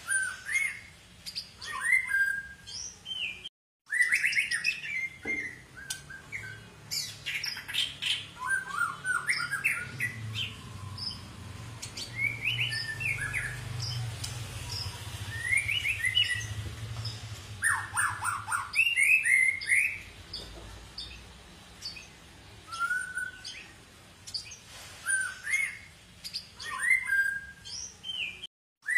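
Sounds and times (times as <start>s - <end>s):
bird singing whistled notes and chirps: 0.0s - 21.2s, 21.8s - 28.9s.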